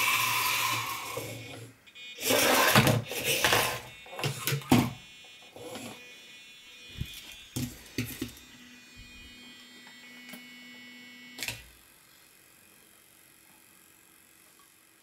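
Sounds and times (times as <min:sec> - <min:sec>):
faint electric buzz: 0:00.0 - 0:15.0
small electric motors whirring: 0:00.0 - 0:15.0.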